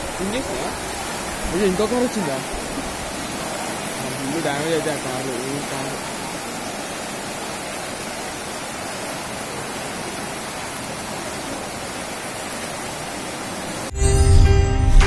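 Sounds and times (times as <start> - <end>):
floodwater rushing: 0.0 - 13.9.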